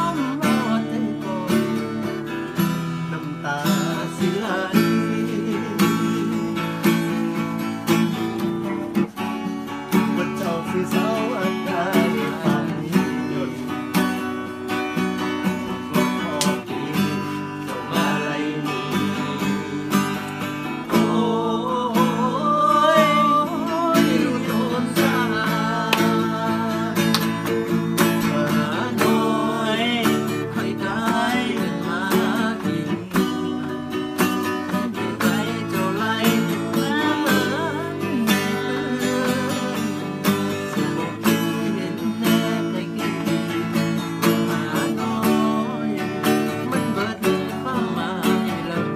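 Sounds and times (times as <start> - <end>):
acoustic guitar strumming: 0.0 - 48.9
man singing: 0.0 - 48.9.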